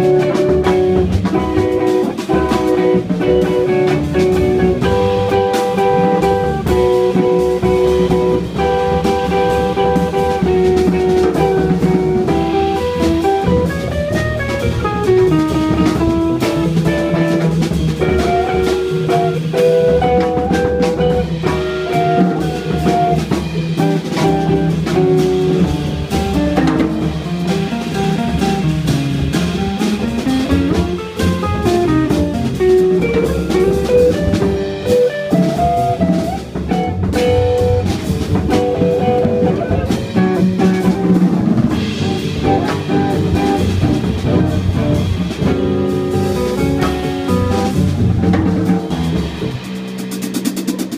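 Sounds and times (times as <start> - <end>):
electric guitar melodic lines: 0.0 - 49.7
drum kit with cymbals: 0.0 - 50.9
upright bass: 0.0 - 50.9.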